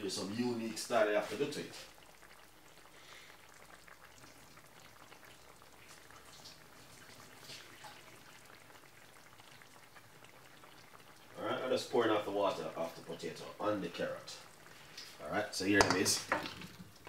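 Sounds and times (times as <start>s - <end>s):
curry bubbling in a pot: 0.0s - 17.0s.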